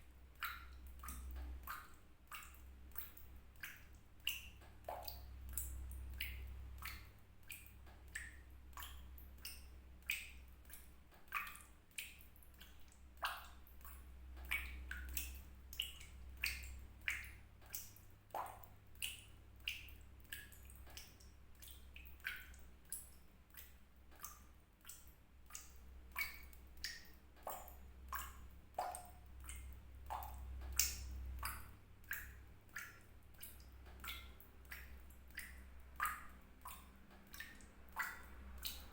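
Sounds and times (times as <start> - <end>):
low steady hum: 0.0 - 38.9
water drops plinking into water: 0.3 - 38.9.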